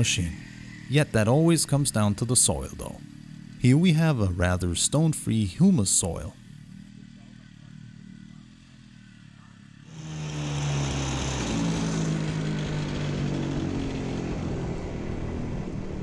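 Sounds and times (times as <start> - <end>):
tiller engine running: 0.0 - 16.0.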